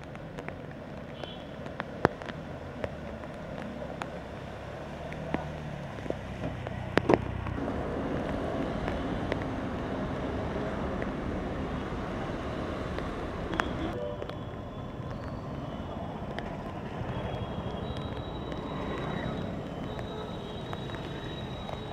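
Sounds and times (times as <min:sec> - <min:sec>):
rain: 0:00.0 - 0:21.9
vehicle engine humming: 0:00.0 - 0:21.9.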